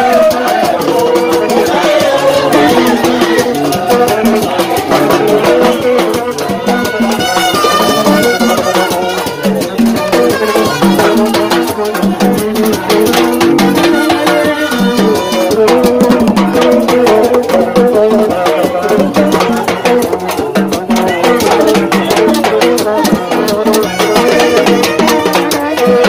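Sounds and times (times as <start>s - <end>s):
repeating horn line: 0.0s - 17.1s, 21.6s - 26.0s
hand drums slapped fast: 0.0s - 26.0s.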